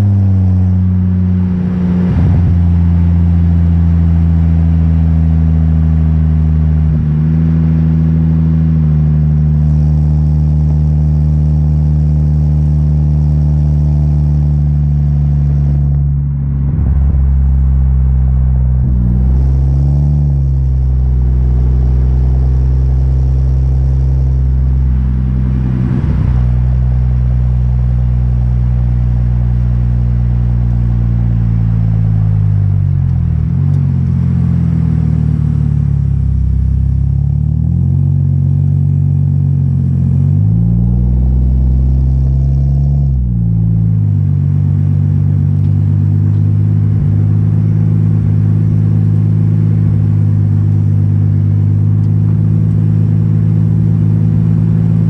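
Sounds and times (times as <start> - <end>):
car exhaust drone: 0.0 - 55.0.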